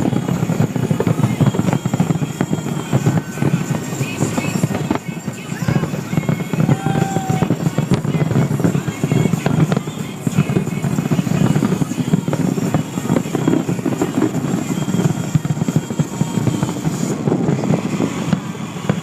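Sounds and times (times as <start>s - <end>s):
fireworks bursts and crackles: 0.0s - 19.0s.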